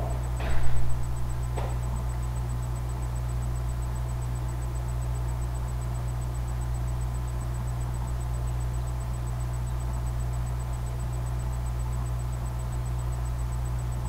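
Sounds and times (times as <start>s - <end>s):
low electrical hum with hiss: 0.0s - 14.0s.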